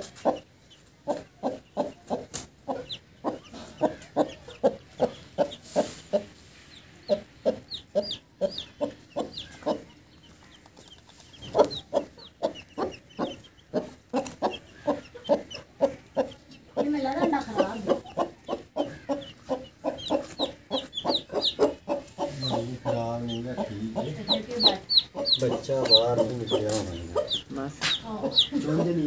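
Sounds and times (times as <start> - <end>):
chicks peeping: 0.0 - 29.0
hen clucking: 0.0 - 29.0.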